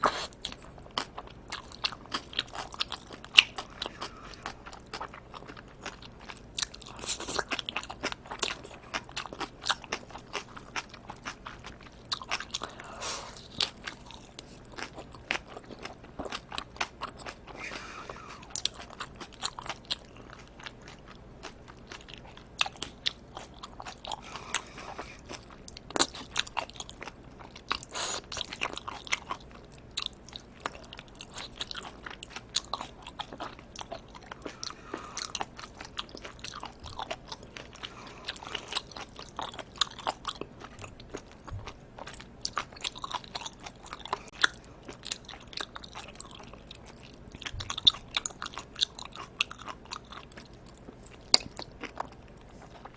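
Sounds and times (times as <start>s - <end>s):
wet chewing and biting: 0.0s - 17.9s, 18.5s - 52.9s.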